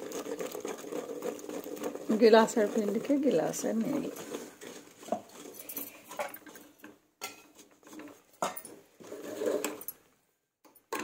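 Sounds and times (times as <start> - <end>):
spoon scraping flour in pot: 0.0 - 10.0.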